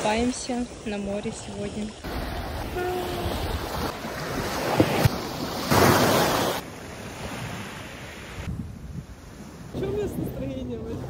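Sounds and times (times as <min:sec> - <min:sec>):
waves breaking on beach: 0:00.0 - 0:11.0
wind on microphone: 0:02.1 - 0:11.0.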